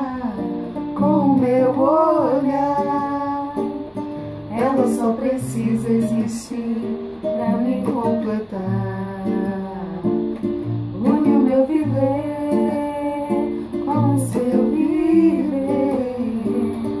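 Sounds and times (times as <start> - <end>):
person singing wordlessly: 0.0 - 10.3, 11.0 - 17.0
acoustic guitar strumming: 0.0 - 17.0.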